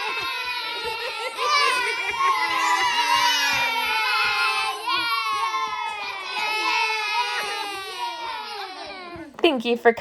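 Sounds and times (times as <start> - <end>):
child crying: 0.0 - 9.3
young children's voices: 0.0 - 9.4.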